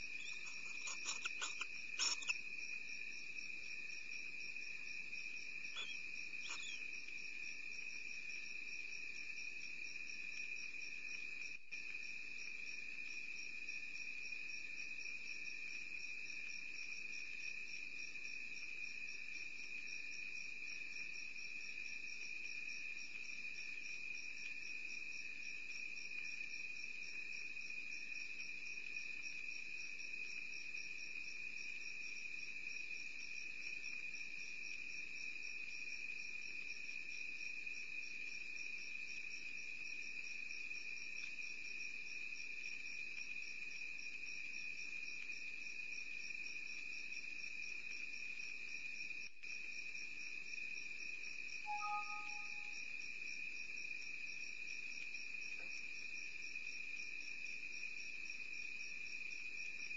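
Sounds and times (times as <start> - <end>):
night insects chirping: 0.0 - 59.9.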